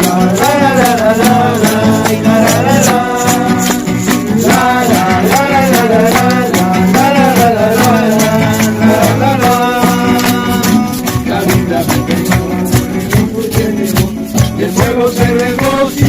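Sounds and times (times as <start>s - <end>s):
maracas shaken in a beat: 0.0s - 16.0s
voices singing worship chorus: 0.0s - 16.0s.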